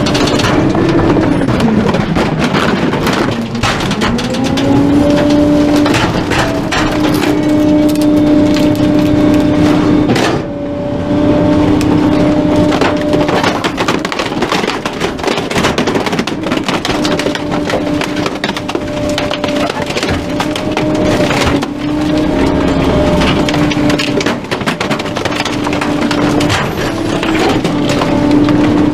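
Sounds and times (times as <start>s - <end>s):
items cracking and crunching: 0.0s - 10.4s, 11.5s - 28.9s.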